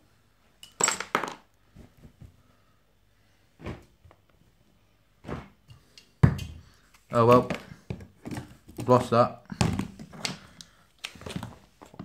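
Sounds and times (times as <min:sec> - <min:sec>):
rustling of things moved by hand: 0:00.3 - 0:12.0.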